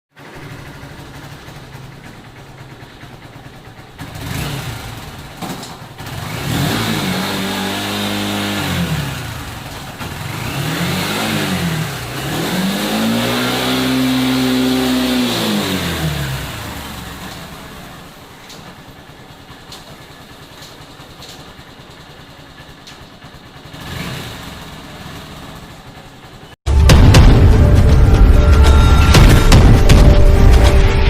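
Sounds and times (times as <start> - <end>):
motorcycle engine idling and revving: 0.1 - 31.0.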